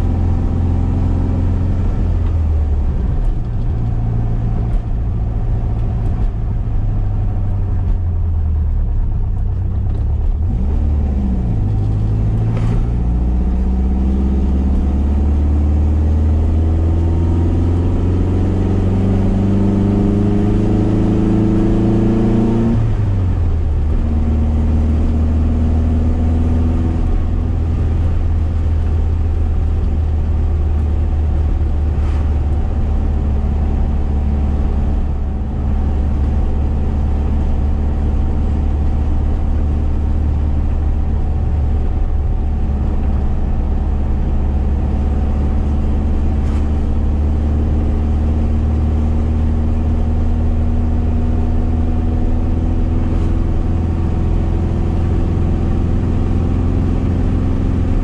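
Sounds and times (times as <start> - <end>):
car engine from inside cabin: 0.0 - 58.0.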